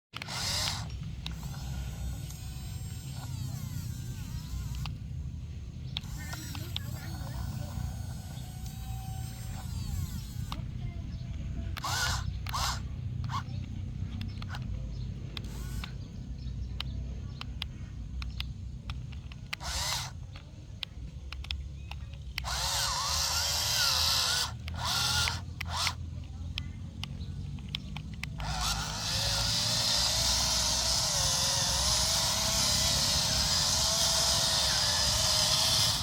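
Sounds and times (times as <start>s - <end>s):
toy excavator motor whining: 0.2s - 36.0s.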